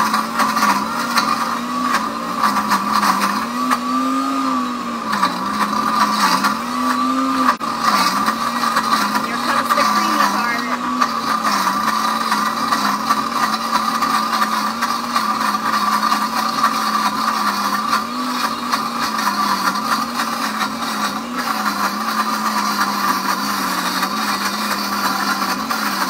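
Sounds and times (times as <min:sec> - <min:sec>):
blender motor grinding nuts: 0:00.0 - 0:26.0.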